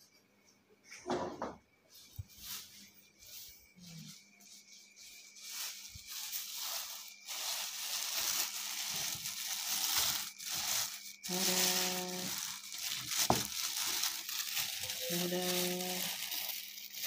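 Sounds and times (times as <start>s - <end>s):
plastic bags crinkling: 2.1s - 17.0s.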